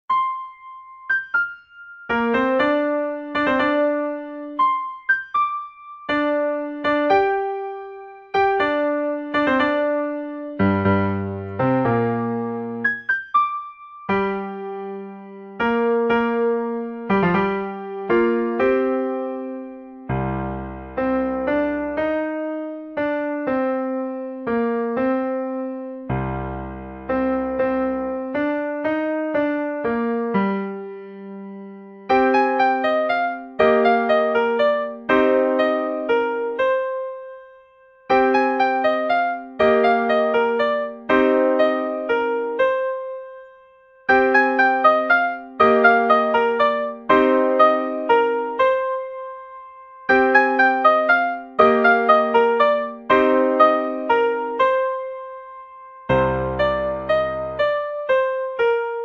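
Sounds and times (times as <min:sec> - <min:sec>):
slow solo piano melody: 0:00.0 - 0:59.0.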